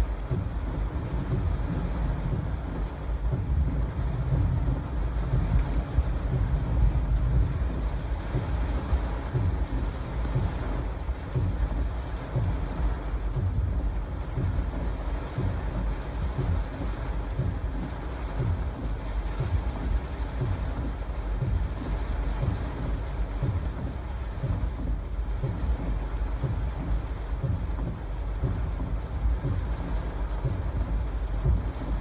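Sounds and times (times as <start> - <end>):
heavy rain falling: 0.0 - 32.0
wind buffeting microphone: 0.0 - 32.0.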